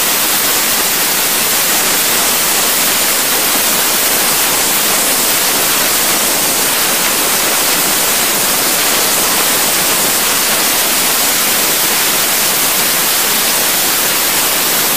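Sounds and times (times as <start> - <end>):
compressed air hissing in duct: 0.0 - 14.9.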